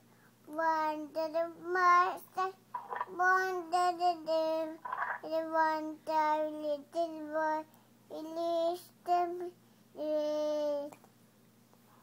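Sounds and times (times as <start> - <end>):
girl singing: 0.5 - 11.0.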